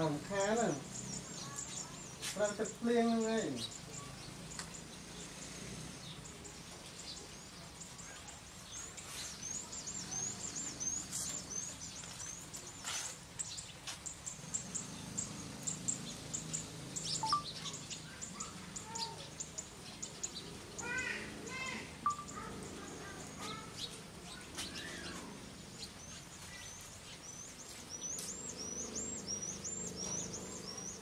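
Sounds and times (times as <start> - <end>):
light rain hissing: 0.0 - 31.0
small birds chirping: 0.0 - 31.0.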